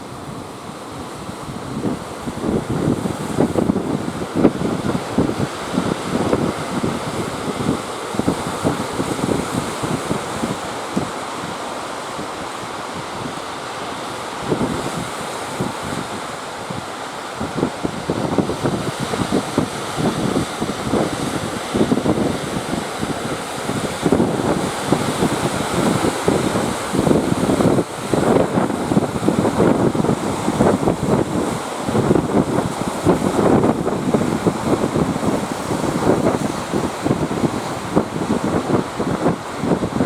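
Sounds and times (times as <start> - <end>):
surf washing: 0.0 - 40.0
wind buffeting microphone: 0.0 - 40.0.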